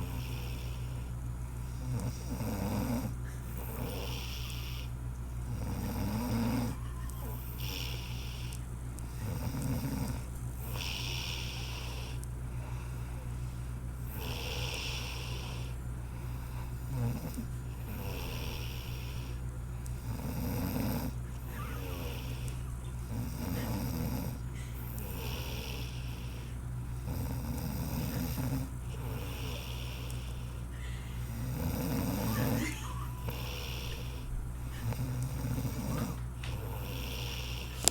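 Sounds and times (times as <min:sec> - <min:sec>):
woman snoring: 0:00.0 - 0:13.4, 0:14.0 - 0:37.9.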